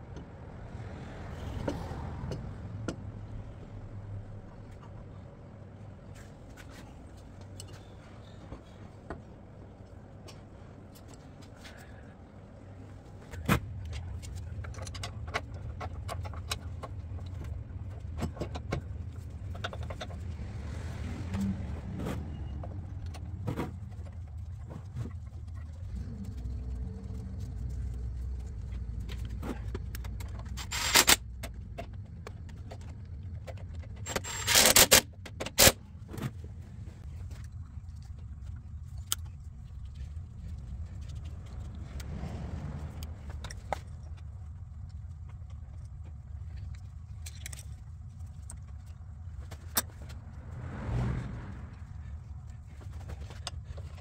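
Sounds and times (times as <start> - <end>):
steady low rumble: 0.0 - 33.9, 35.8 - 54.0.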